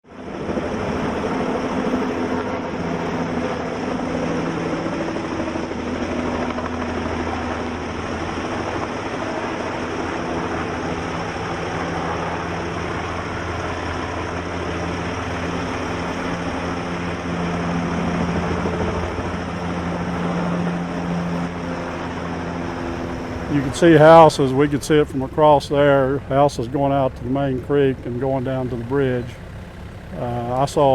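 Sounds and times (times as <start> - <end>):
engine drone: 0.0 - 30.9.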